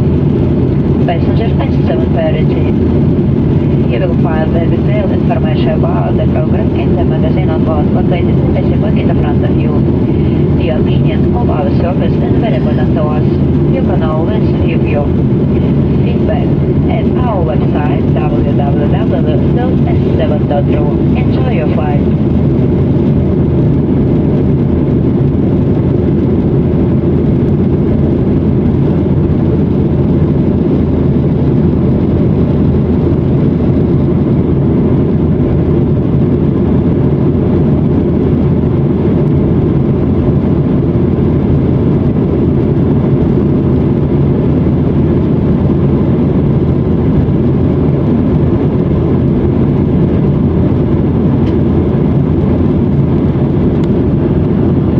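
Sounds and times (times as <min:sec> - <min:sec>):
jet airliner cabin noise: 0:00.0 - 0:54.9.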